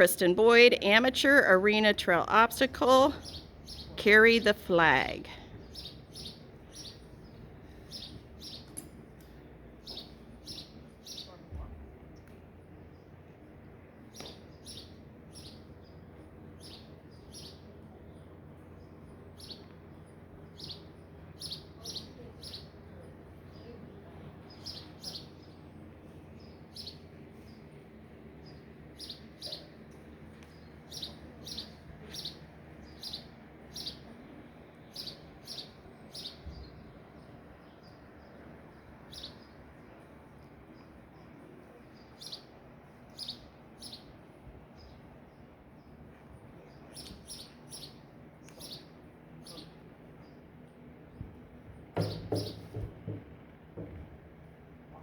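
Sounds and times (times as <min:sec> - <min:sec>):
small birds chirping: 0:02.3 - 0:52.5.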